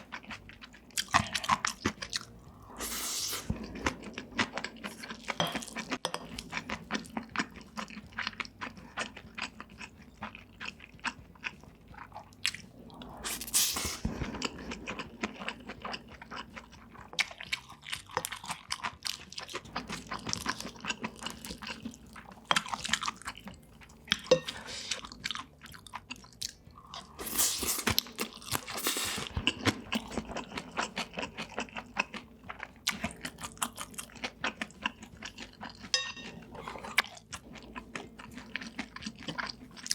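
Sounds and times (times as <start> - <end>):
crunchy chewing and biting of food: 0.0 - 39.9.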